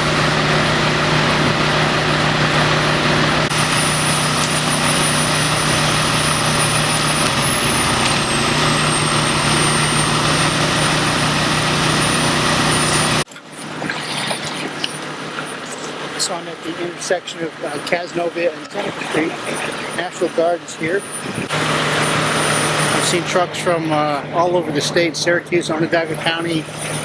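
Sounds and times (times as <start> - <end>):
large engine running: 0.0 - 13.3, 14.6 - 27.0.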